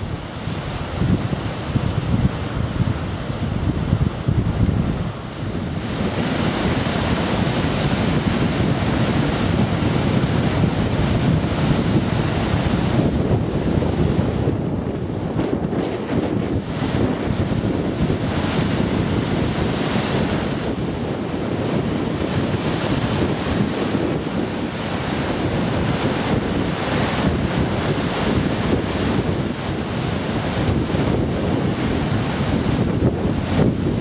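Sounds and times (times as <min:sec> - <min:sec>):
waves breaking on rocks: 0:00.0 - 0:34.0
wind buffeting microphone: 0:00.0 - 0:34.0.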